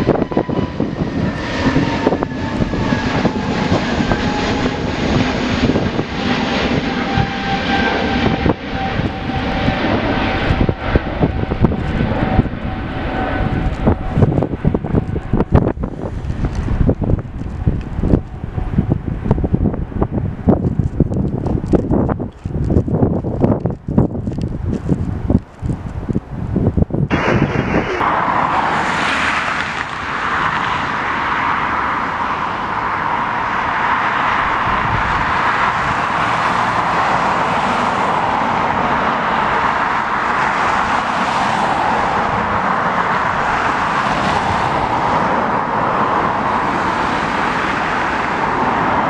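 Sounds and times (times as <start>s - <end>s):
jet engines running: 0.0s - 49.0s
wind buffeting microphone: 0.0s - 49.0s.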